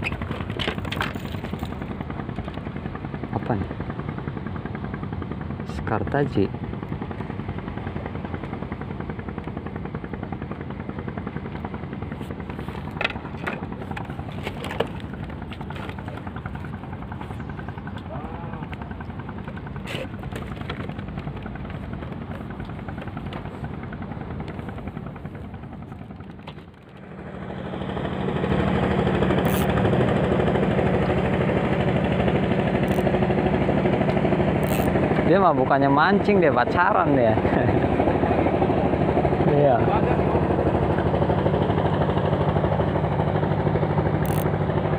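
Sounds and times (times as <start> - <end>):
motor boat engine puttering: 0.0 - 44.9.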